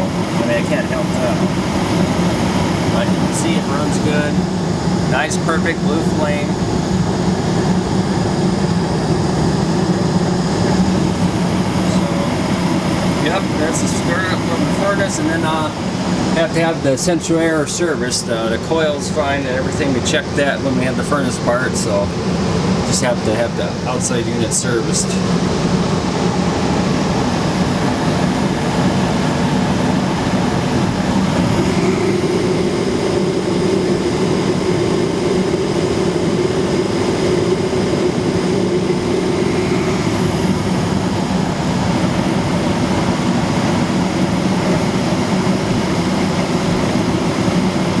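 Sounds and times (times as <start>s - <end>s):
extra hum: 0.0s - 48.0s
gas furnace rumbling: 0.0s - 48.0s.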